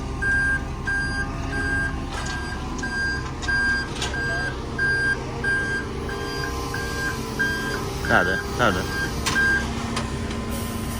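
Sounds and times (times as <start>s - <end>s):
diesel engine rumble: 0.0s - 10.9s
truck back-up alarm beeping: 0.0s - 10.9s.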